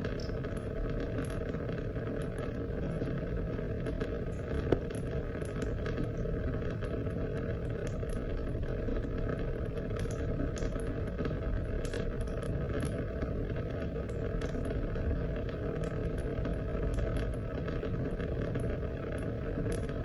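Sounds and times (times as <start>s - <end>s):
raindrops ticking: 0.0s - 20.0s
steady rain: 0.0s - 20.0s.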